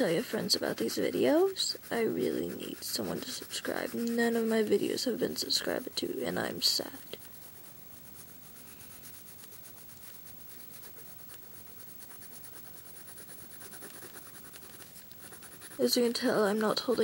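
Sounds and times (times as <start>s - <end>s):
pencil scratching on paper: 0.0s - 17.0s.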